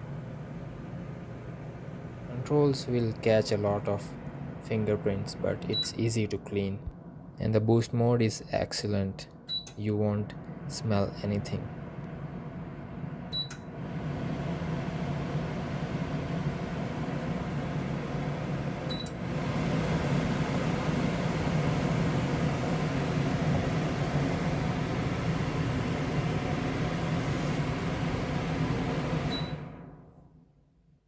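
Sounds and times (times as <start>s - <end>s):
range hood fan running: 0.0s - 30.3s.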